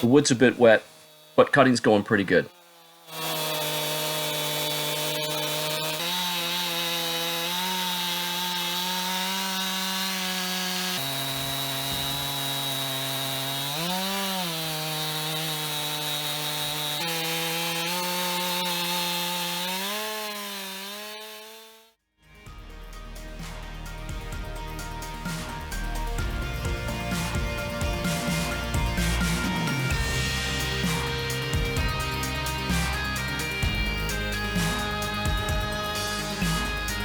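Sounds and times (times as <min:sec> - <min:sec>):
chainsaw cutting log: 0:00.0 - 0:22.0, 0:24.7 - 0:37.0.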